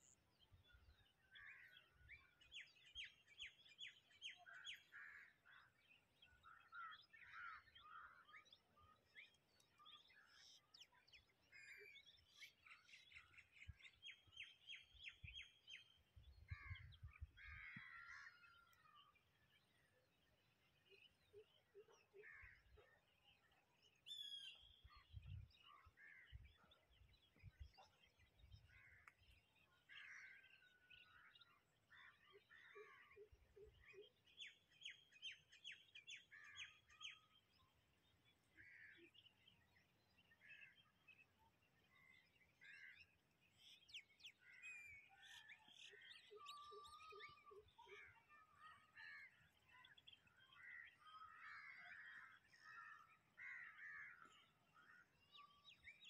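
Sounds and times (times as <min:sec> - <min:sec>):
wild birds chirping: 0:00.0 - 0:56.0.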